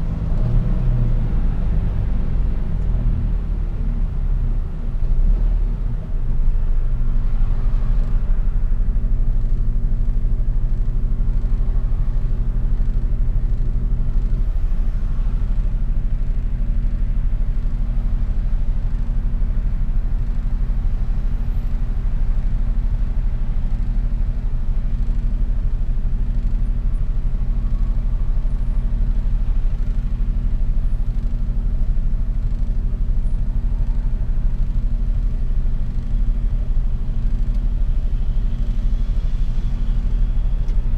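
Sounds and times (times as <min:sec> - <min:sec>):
truck diesel engine drone: 0:00.0 - 0:40.9.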